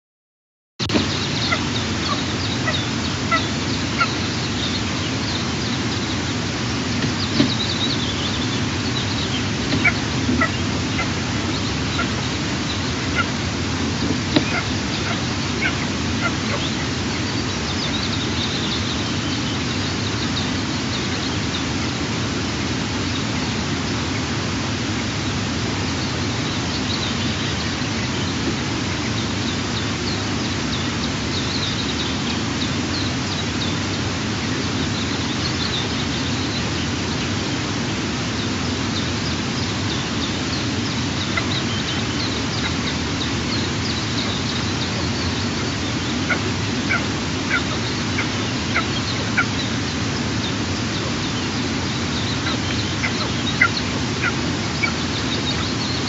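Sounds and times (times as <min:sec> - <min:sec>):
high-pitched bird calls: 0:00.8 - 0:24.4, 0:25.8 - 0:56.0
rushing outdoor hiss: 0:00.8 - 0:56.0.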